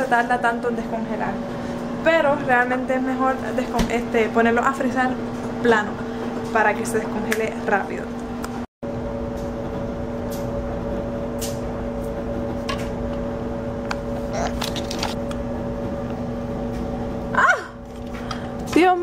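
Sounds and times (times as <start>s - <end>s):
mechanical household hum: 0.0s - 19.0s.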